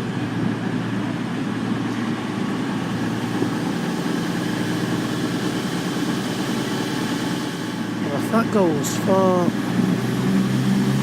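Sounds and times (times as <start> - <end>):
train diesel engines humming: 0.0 - 11.0.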